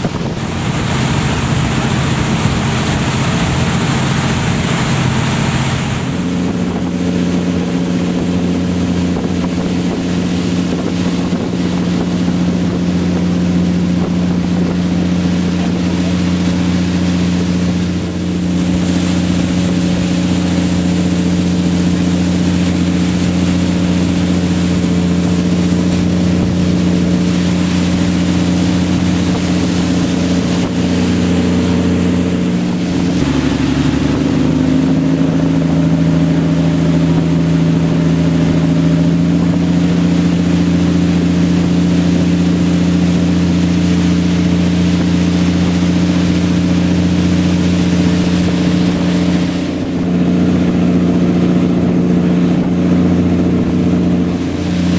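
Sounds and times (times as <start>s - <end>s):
speedboat engine running: 0.0s - 54.9s
water rushing along hull: 0.0s - 54.9s.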